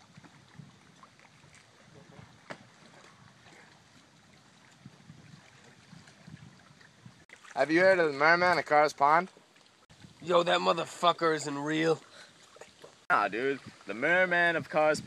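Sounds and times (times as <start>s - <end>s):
water lapping at rocky shore: 0.0s - 14.9s.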